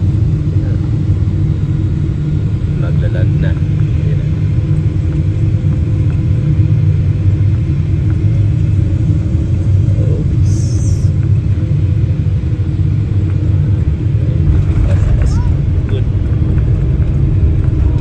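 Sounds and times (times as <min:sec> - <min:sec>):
airliner rumble in cabin: 0:00.0 - 0:18.0.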